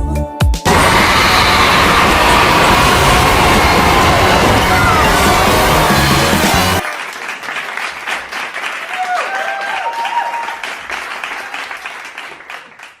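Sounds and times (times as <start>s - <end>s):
children cheering and clapping: 0.6s - 13.0s.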